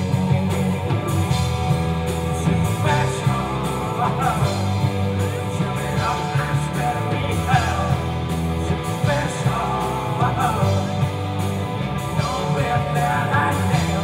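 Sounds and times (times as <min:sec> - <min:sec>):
drums: 0:00.0 - 0:14.0
electric guitars: 0:00.0 - 0:14.0
man singing: 0:00.0 - 0:14.0.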